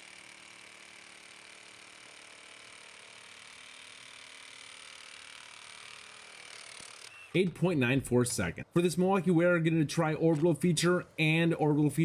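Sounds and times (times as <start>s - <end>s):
reciprocating saw cutting boards: 0.0s - 12.0s.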